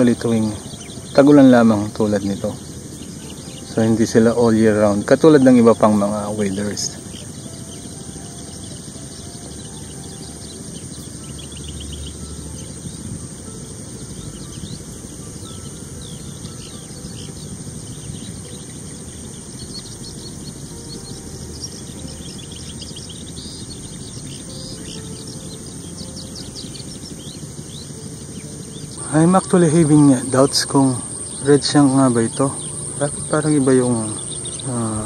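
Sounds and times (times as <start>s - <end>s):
high bird chirps: 0.0s - 35.0s
high insect buzz: 0.0s - 35.0s
low background rumble: 0.0s - 35.0s.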